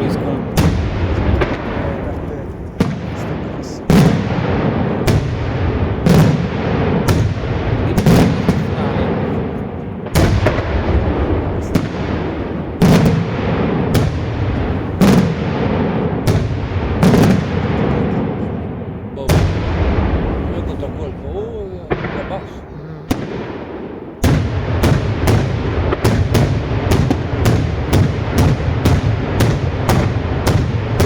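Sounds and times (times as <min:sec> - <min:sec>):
continuous rumble: 0:00.0 - 0:31.0.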